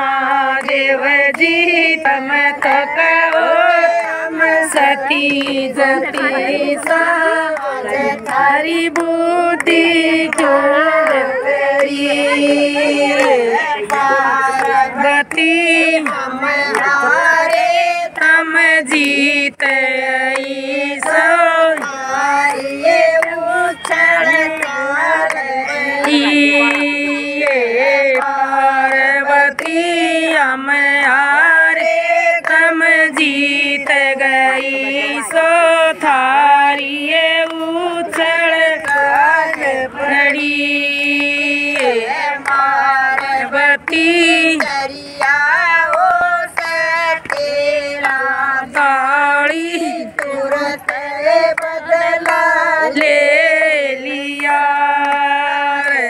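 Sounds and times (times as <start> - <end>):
hand claps: 0.0 - 56.0
women singing together: 0.0 - 56.0.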